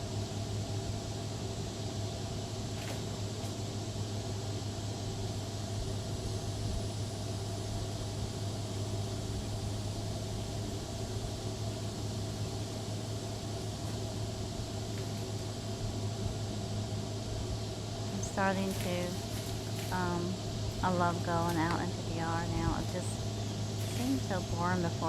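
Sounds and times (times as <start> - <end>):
lawn mower engine running: 0.0 - 25.0
steady high hiss: 0.0 - 25.0.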